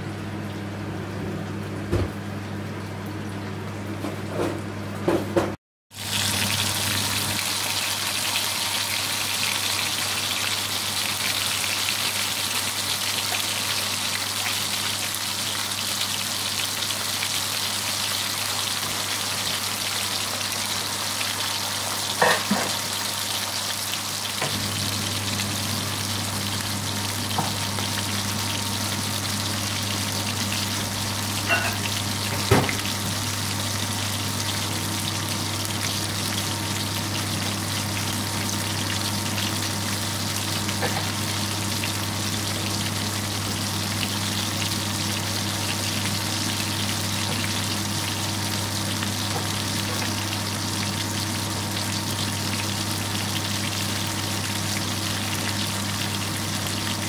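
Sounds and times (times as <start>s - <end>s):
burger patties sizzling in oil: 5.9s - 57.0s.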